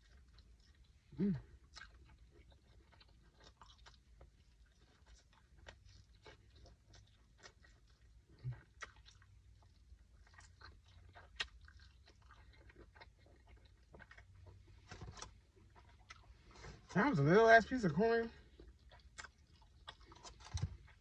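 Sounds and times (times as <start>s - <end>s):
person chewing and biting food: 0.0s - 16.9s, 18.4s - 21.0s.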